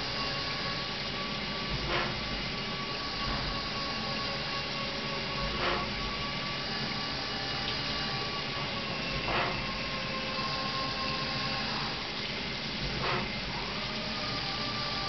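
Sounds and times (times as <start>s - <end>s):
coolant rushes: 0.0s - 15.0s
machine with spindle whine: 0.0s - 15.0s.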